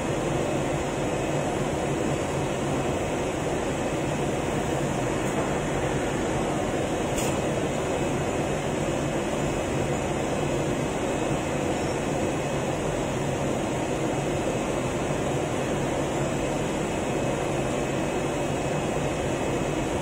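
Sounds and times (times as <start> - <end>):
cutting machine hum and whir: 0.0 - 20.0.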